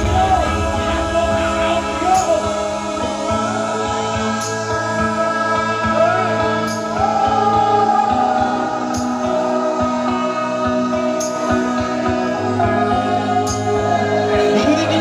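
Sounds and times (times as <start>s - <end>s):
song with beat over loudspeakers: 0.0s - 15.0s.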